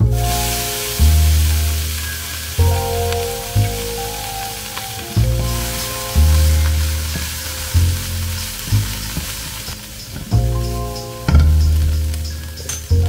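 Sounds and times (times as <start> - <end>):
background music: 0.0 - 13.0
kale sizzling in a wok: 0.0 - 13.0
spatula stirring in a wok: 0.1 - 13.0.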